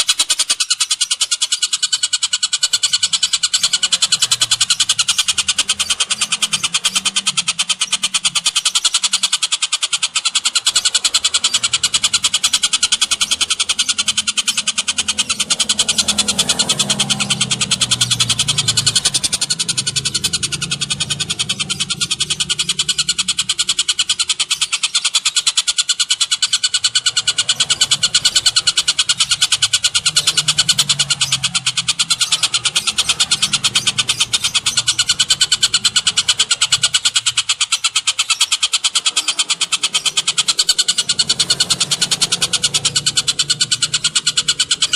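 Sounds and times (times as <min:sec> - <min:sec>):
fast bird trill: 0:00.0 - 0:44.9.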